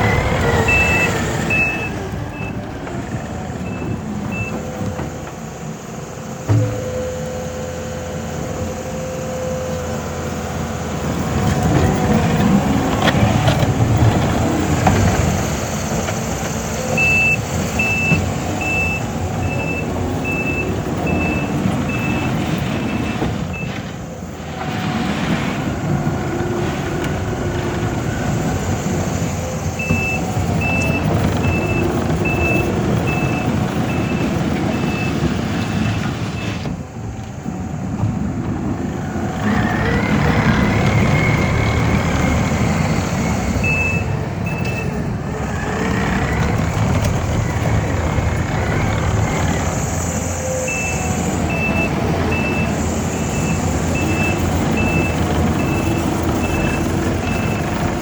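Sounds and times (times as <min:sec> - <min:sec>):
reversing alarm beeping: 0:00.0 - 0:02.6, 0:03.2 - 0:13.6, 0:14.2 - 0:25.7, 0:27.8 - 0:36.7, 0:39.4 - 0:45.7, 0:47.6 - 0:58.0
diesel engine running: 0:00.0 - 0:58.0.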